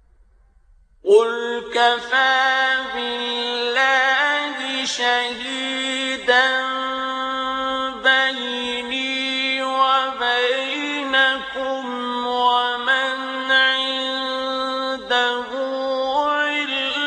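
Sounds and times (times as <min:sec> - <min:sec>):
man chanting melodically: 0:01.0 - 0:17.0.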